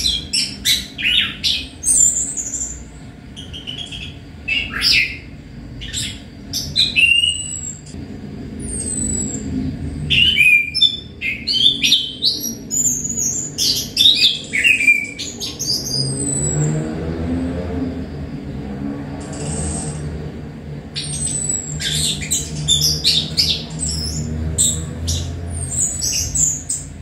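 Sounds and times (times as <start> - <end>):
songbird singing: 0.0 - 8.0, 8.6 - 27.0.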